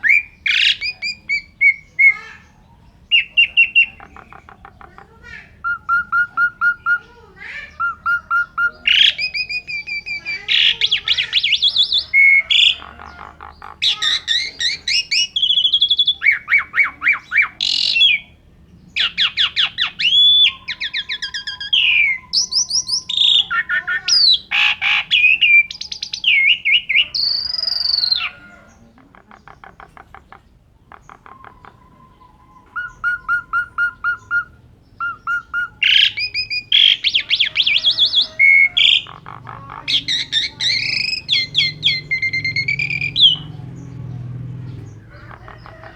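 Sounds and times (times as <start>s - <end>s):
starling singing: 0.0s - 45.9s.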